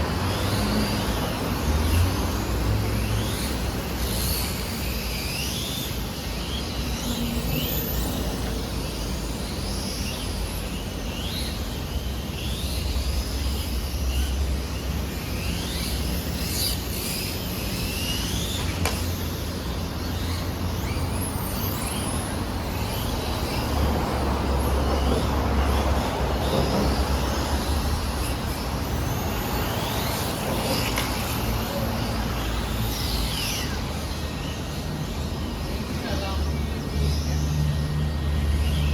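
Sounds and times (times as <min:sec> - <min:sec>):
road traffic rumble: 0:00.0 - 0:38.9
toy car motors whining: 0:00.0 - 0:38.9.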